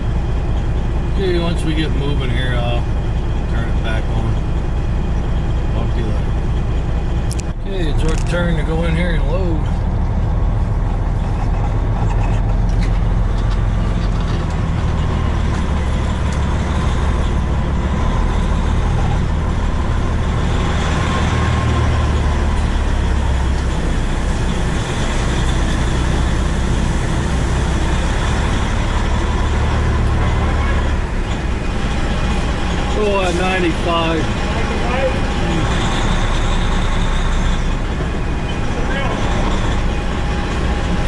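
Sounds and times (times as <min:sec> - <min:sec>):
diesel truck engine drone: 0:00.0 - 0:41.0.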